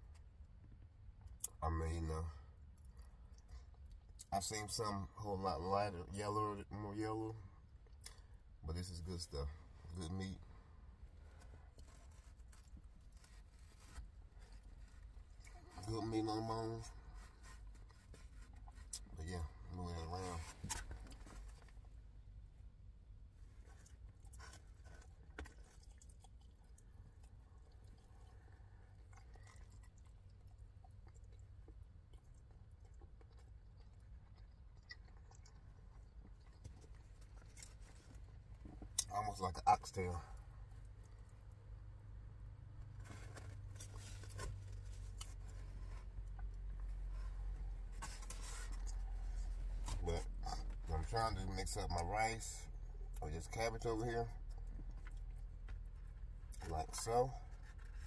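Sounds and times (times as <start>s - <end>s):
low steady hum: 0.0s - 58.0s
faint chewing: 2.2s - 4.8s, 6.7s - 58.0s.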